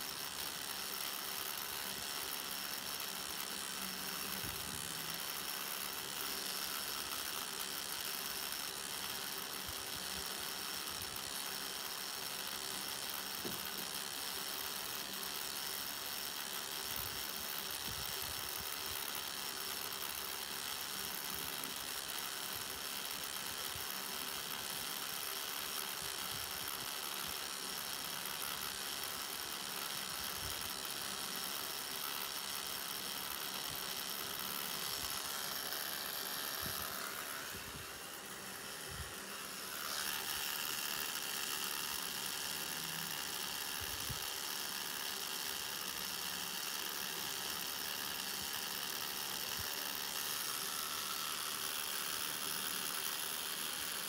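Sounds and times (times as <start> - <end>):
tattoo machine buzzing: 0.0 - 54.0.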